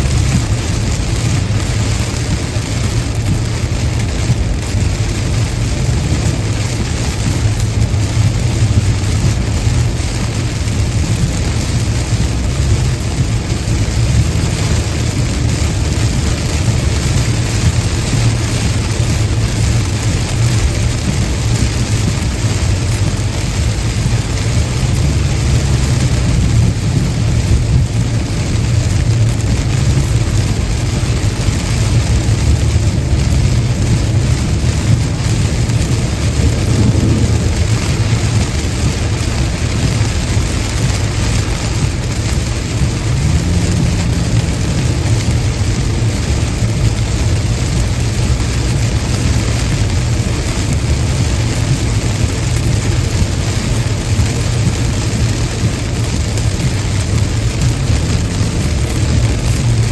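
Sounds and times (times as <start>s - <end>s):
hiss of rain and spray: 0.0s - 59.9s
road and tyre rumble: 0.0s - 59.9s.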